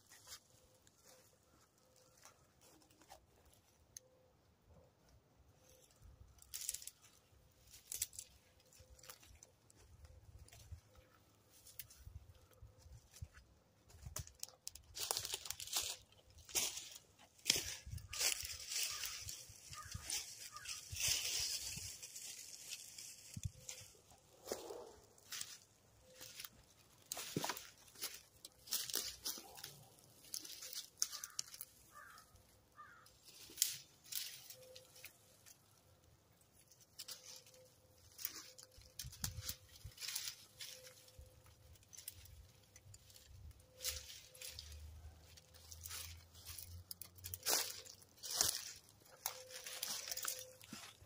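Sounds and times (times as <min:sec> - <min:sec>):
branches and brush snapping: 0:05.8 - 0:51.0.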